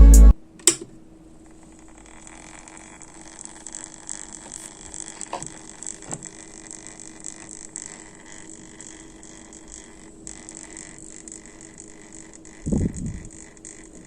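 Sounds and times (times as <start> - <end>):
cooler pump humming: 0.4 - 14.0.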